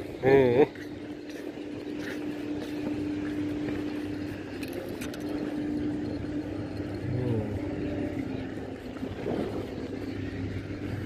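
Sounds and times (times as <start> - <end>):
outdoor noise: 0.0 - 11.0
steady engine drone: 0.0 - 11.0.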